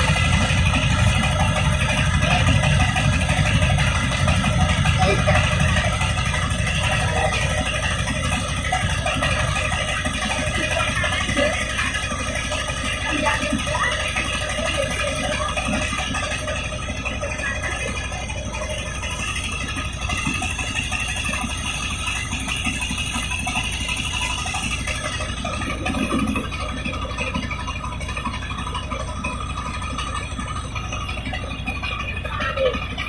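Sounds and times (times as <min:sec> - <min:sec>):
rice huller mechanical rattle: 0:00.0 - 0:33.0.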